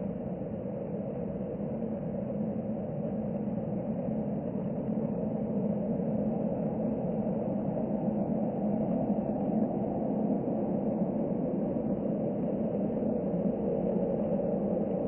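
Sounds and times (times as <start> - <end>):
jet engines low hum: 0.0 - 15.0.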